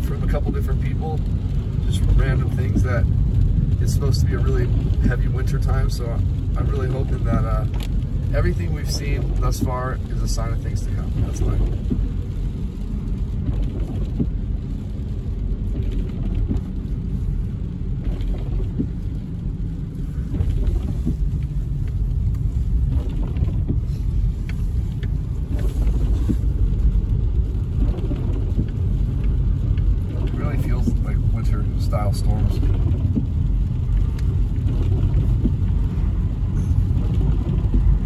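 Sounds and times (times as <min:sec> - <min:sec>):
car driving on wet road: 0:00.0 - 0:38.0
raindrops tapping on windshield: 0:00.0 - 0:38.0.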